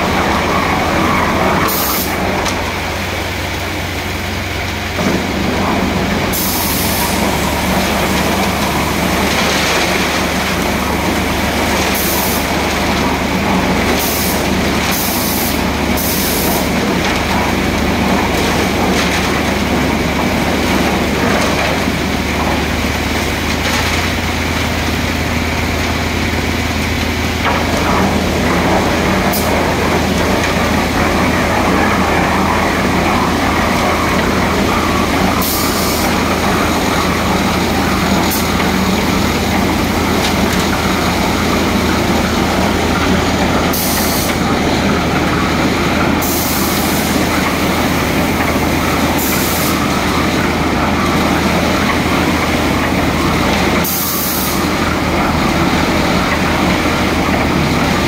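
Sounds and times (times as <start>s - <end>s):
concrete mixer rumbling: 0.0s - 58.0s.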